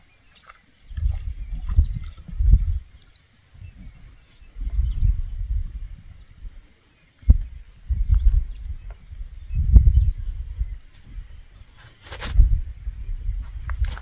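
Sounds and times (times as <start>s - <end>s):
small birds chirping: 0.0s - 14.0s
wind buffeting microphone: 0.8s - 14.0s.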